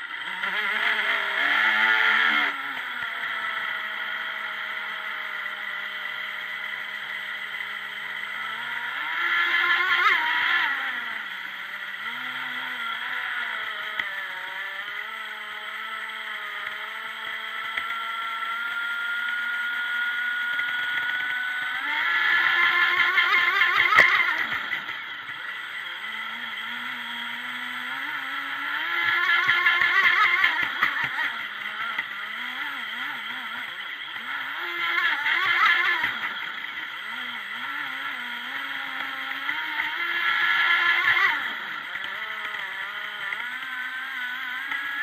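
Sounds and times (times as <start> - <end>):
electric boat motor whining: 0.0 - 45.0.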